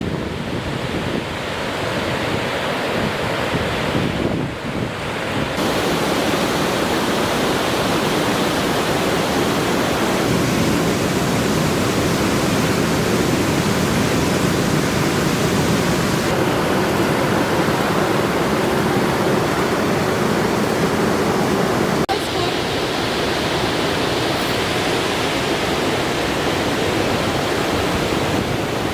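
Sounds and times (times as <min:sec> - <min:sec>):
waterfall rushing: 0:05.5 - 0:28.9.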